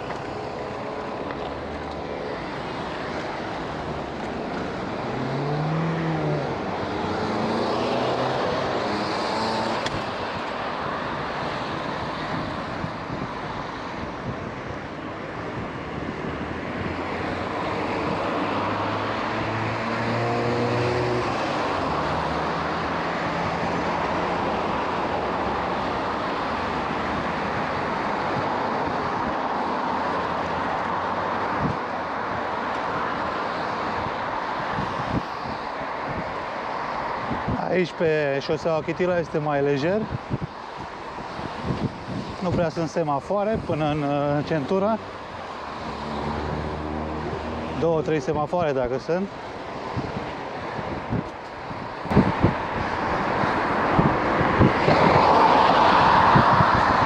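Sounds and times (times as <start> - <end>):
motor vehicles passing: 0.0 - 57.0.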